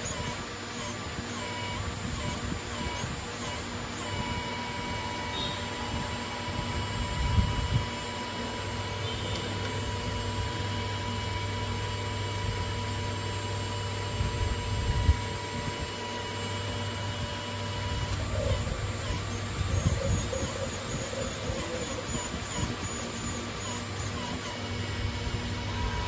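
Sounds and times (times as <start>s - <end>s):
electric pump humming: 0.0s - 26.0s.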